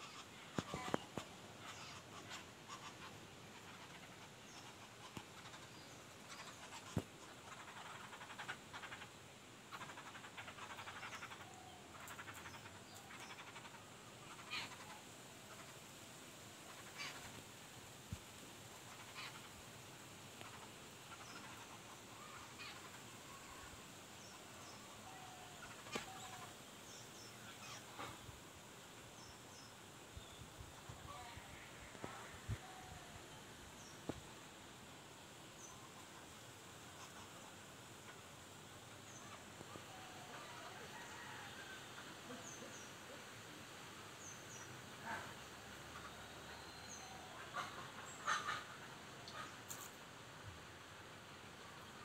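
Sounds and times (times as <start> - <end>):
outdoor background hiss: 0.0 - 52.0.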